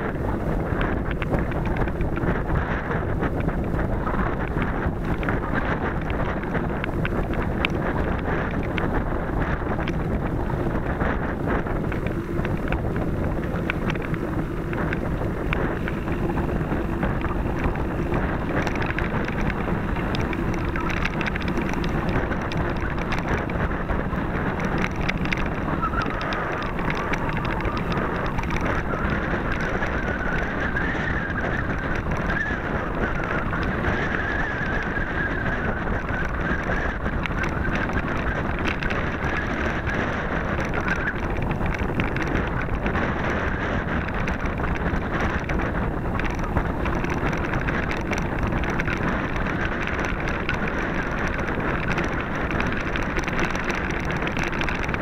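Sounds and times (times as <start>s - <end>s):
bike rattles and knocks: 0.0s - 55.0s
bike tyre noise: 0.0s - 55.0s
wind buffeting microphone: 0.0s - 55.0s.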